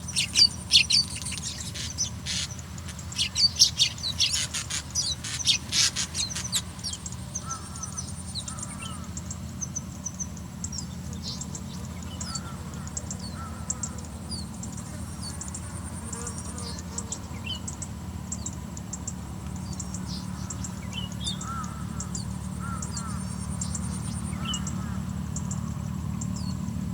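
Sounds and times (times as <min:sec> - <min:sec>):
baby birds cheeping: 0:00.0 - 0:26.8.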